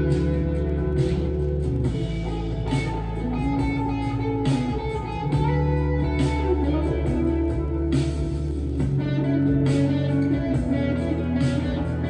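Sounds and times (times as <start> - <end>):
electric guitar melody: 0.0 - 12.0
low accompaniment: 0.0 - 12.0.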